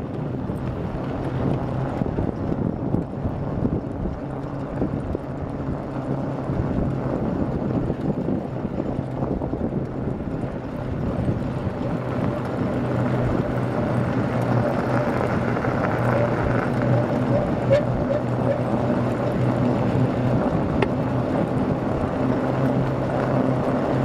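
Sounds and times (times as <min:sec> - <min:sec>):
cart rolling on snow: 0:00.0 - 0:24.0.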